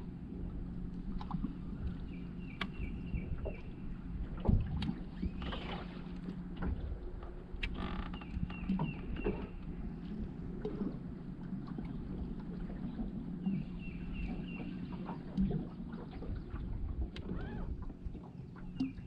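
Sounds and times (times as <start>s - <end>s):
small waves slapping boat hull: 0.0s - 19.0s
steady low hum: 0.0s - 19.0s.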